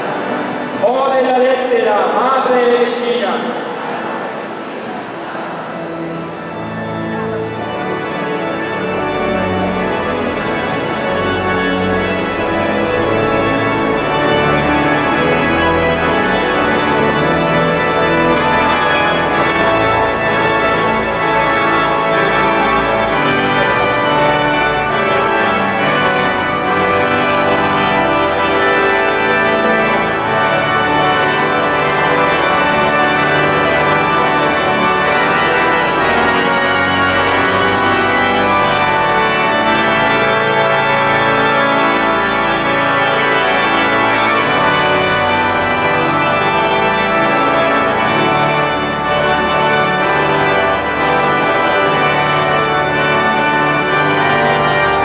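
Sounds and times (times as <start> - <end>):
pipe organ chords: 0.0 - 55.0.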